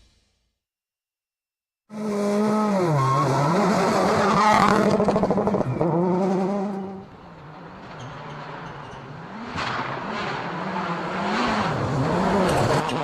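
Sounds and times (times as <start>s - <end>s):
rally car engine revving: 1.9s - 13.0s.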